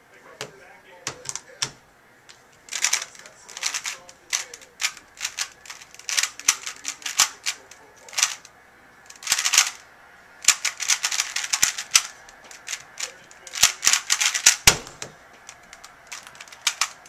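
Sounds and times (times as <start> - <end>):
plastic puzzle cube clacking: 0.4 - 8.5, 9.1 - 9.8, 10.4 - 17.0.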